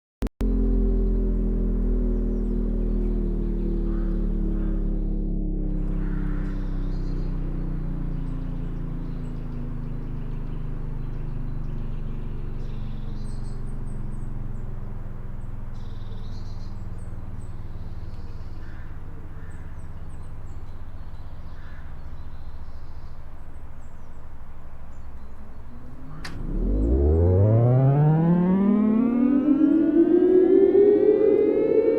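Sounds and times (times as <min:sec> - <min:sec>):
steady low hum: 0:00.4 - 0:31.9
small birds chirping: 0:00.5 - 0:31.9.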